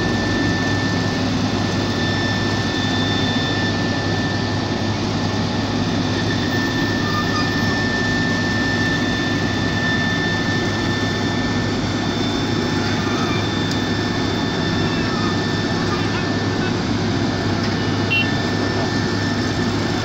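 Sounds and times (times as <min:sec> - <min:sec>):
diesel machinery engine drone: 0:00.0 - 0:20.0
high whine: 0:00.0 - 0:20.0.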